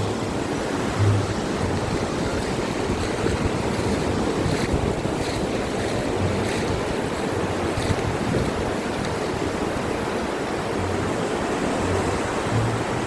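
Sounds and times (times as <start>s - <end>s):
ocean surf washing onto beach: 0.0s - 13.0s
wind rumble on microphone: 0.0s - 13.0s.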